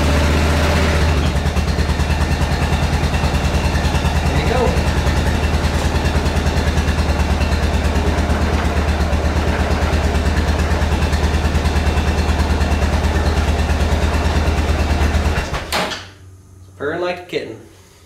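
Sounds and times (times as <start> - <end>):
engine idling: 0.0 - 15.8.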